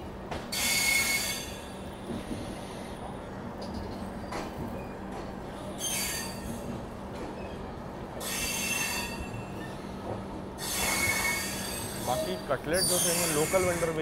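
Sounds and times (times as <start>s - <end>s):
train rolling rumble: 0.0s - 14.0s
train wheels squealing on rails: 0.5s - 14.0s.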